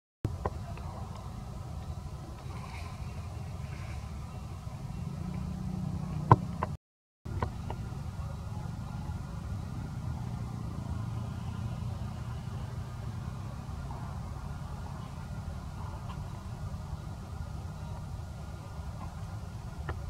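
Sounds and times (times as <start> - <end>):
vehicle engine rumbling: 0.3 - 20.0.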